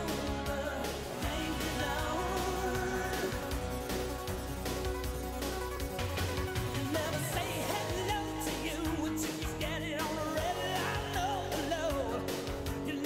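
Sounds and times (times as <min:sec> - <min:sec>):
song with singing over beat: 0:00.0 - 0:13.0.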